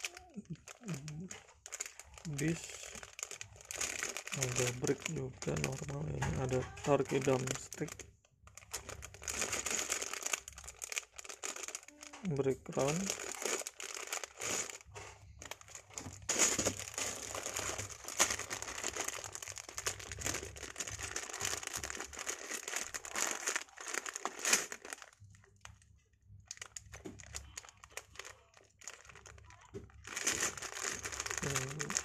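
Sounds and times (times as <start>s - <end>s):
plastic bags crinkling: 0.0s - 32.0s.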